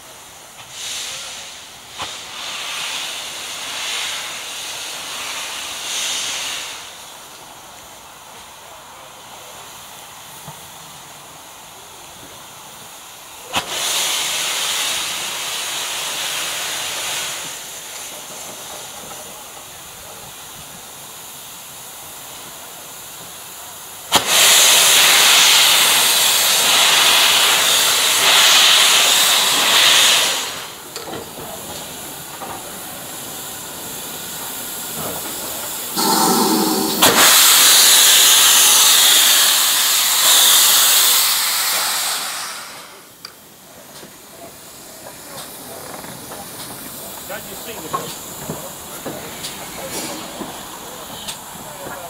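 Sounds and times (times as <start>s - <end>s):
loud blasts of escaping steam: 0.0s - 52.0s
steam hissing from locomotive: 0.0s - 52.0s.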